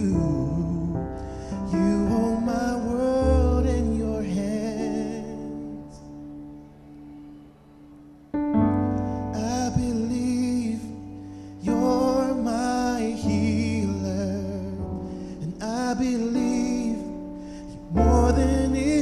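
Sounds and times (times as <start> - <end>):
person singing with vibrato: 0.0 - 7.4, 8.7 - 19.0
piano chords: 0.0 - 19.0.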